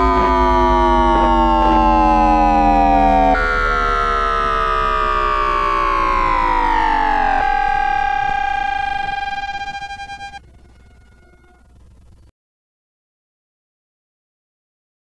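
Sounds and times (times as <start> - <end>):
electronic tones falling in pitch: 0.0 - 12.3.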